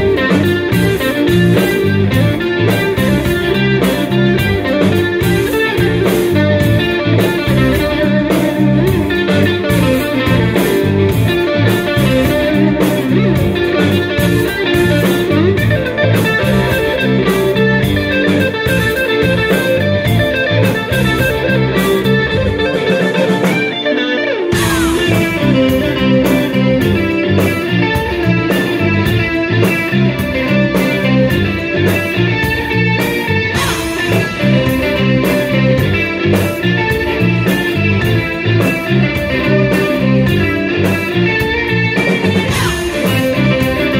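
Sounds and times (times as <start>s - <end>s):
electric guitar melody: 0.0s - 43.9s
live band playing: 0.0s - 43.9s.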